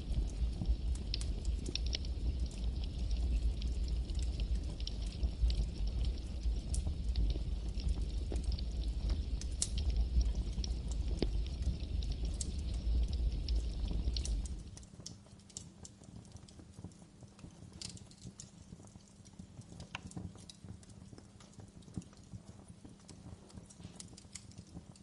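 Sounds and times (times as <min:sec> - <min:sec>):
burning wood crackling: 0:00.0 - 0:25.0
low rumble of flame: 0:00.0 - 0:25.0.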